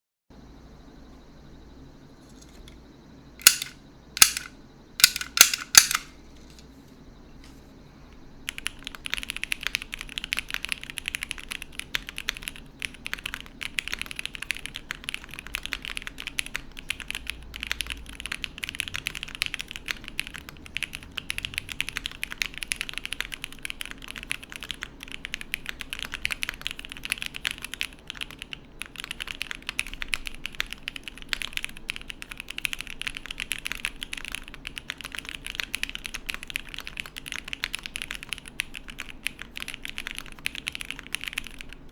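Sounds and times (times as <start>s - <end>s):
mechanical keyboard typing: 3.4s - 6.1s, 8.5s - 41.9s.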